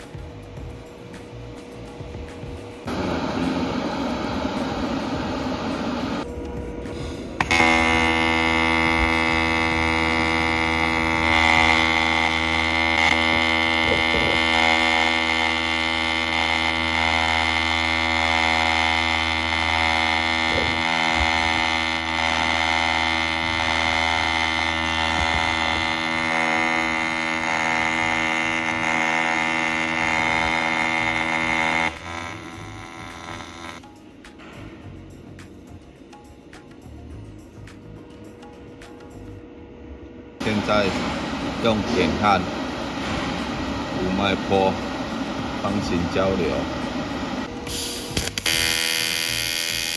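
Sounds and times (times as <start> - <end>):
welding arc hum: 0.0 - 49.9.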